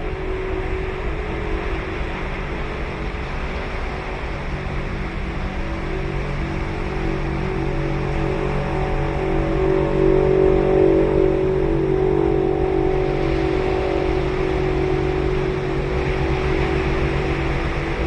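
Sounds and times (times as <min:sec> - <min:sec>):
engine drone: 0:00.0 - 0:18.0
ocean surf washing on beach: 0:00.0 - 0:18.0.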